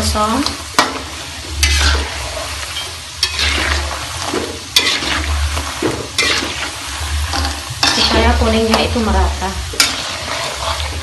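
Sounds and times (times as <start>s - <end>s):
dough sizzling in hot oil: 0.0s - 11.0s
metal spatula scraping a wok: 0.7s - 11.0s.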